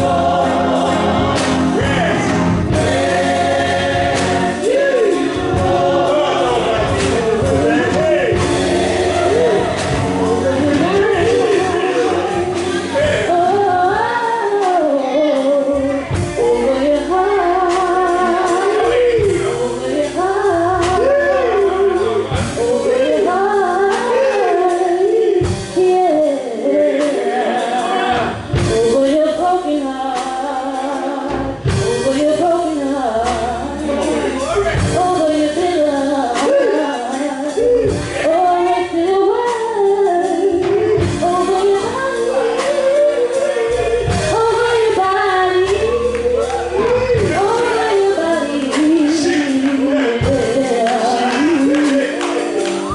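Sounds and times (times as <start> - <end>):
live band playing: 0.0 - 52.9
person singing: 0.0 - 52.9.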